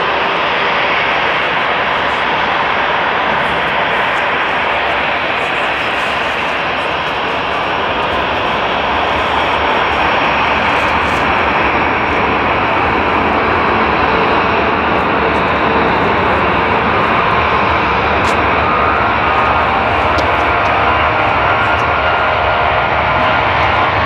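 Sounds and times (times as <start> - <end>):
jet engines at high thrust: 0.0 - 24.0.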